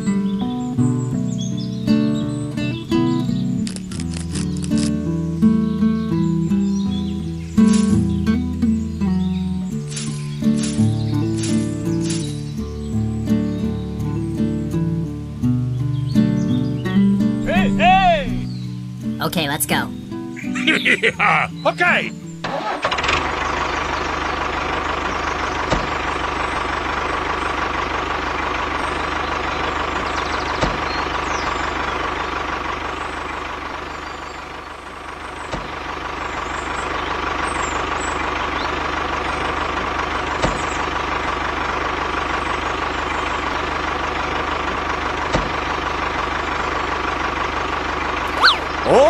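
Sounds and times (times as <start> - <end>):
tractor engine running: 0.0 - 14.4, 17.0 - 49.0.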